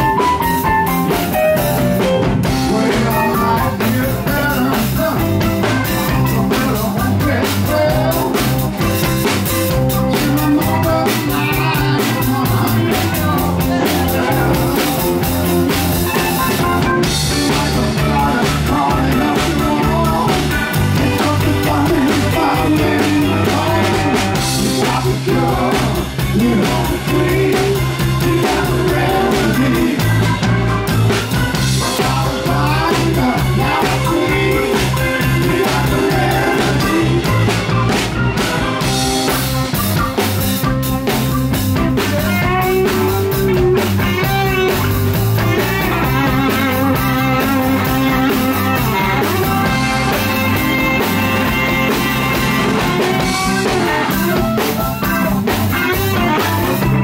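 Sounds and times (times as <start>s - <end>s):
drum kit: 0.0s - 57.0s
electric bass: 0.0s - 57.0s
electric guitars: 0.0s - 57.0s
keyboard: 0.0s - 57.0s.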